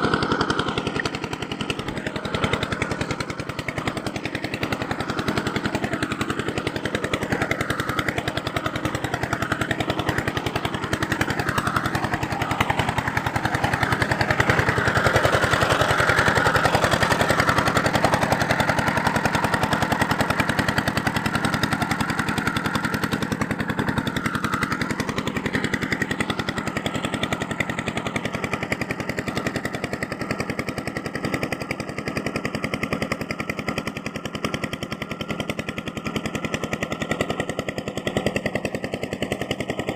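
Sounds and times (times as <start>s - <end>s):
power tool rattling on rusty metal: 0.0s - 39.9s.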